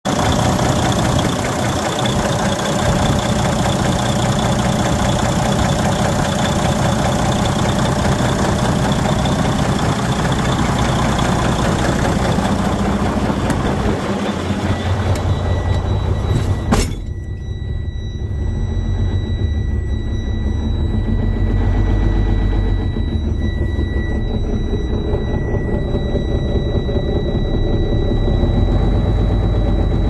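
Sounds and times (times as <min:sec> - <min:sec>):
diesel engine idling with knock: 0:00.1 - 0:30.0.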